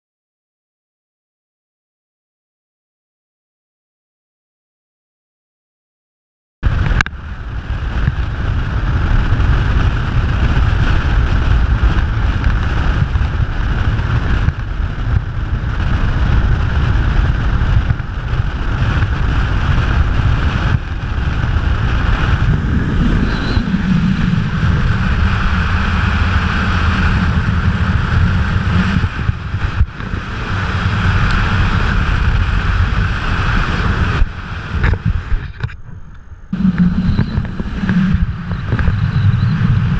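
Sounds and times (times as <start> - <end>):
low hum: 6.6 - 39.9
road rumble: 6.6 - 39.9
wind buffeting microphone: 6.6 - 39.9.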